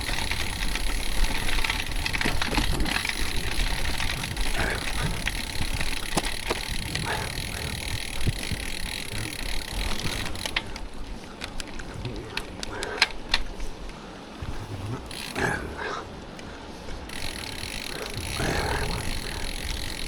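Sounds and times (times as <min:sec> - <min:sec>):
bike clicks and rattles: 0:00.0 - 0:20.0
wind rumble: 0:00.0 - 0:20.0.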